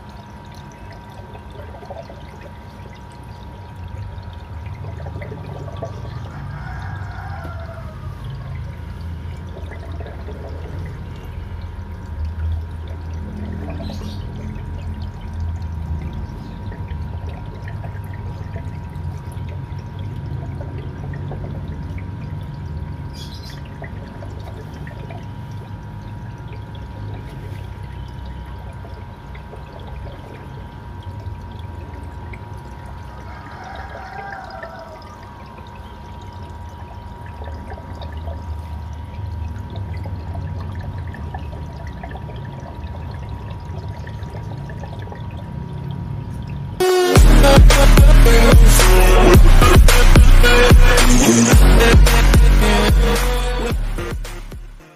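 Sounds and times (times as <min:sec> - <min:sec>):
water trickling: 0:00.0 - 0:47.6.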